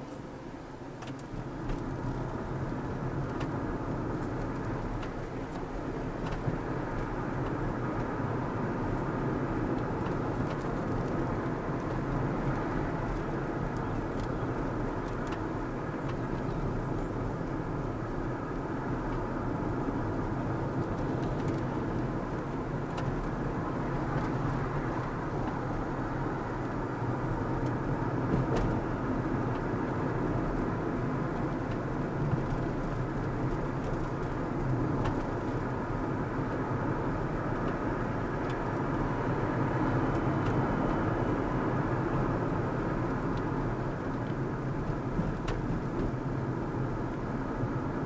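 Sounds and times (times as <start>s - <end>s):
car driving on road: 0.0s - 48.0s.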